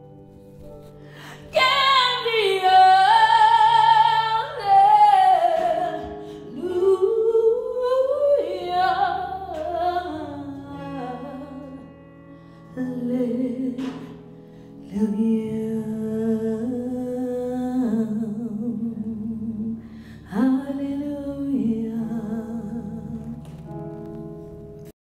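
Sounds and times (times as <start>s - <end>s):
soft sustained backing music: 0.0s - 24.9s.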